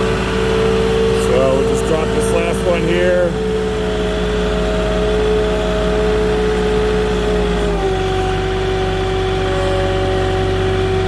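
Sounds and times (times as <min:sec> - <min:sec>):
forklift engine whining: 0:00.0 - 0:11.0.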